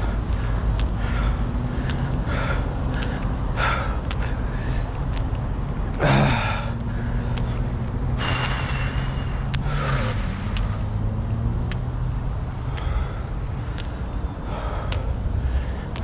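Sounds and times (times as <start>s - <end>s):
person breathing hard: 0.0s - 5.0s, 6.0s - 10.9s, 12.7s - 16.0s
steady low rumble: 0.0s - 16.0s.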